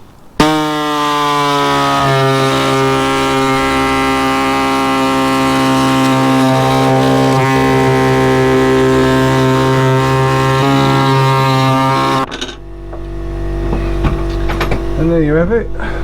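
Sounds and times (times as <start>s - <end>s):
pneumatic air saw cutting fiberglass: 0.4s - 15.1s.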